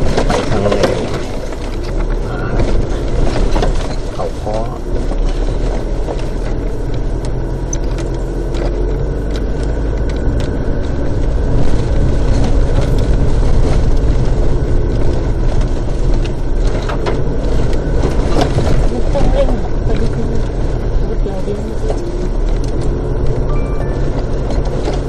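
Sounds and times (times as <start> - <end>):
knocks and rattles: 0.0 - 25.0
vehicle engine and tyre rumble: 0.0 - 25.0.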